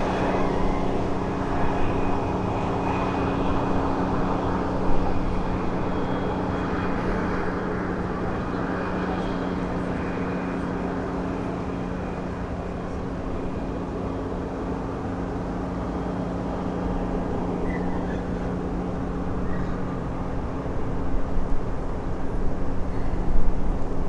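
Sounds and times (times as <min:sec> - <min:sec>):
ship engines droning: 0:00.0 - 0:24.0.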